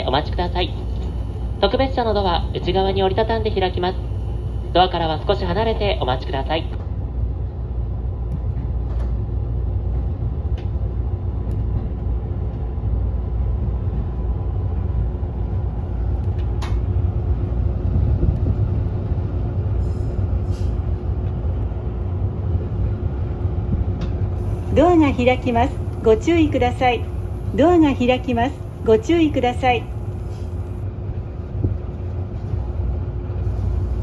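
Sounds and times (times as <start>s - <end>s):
train cabin rumble: 0.0s - 34.0s.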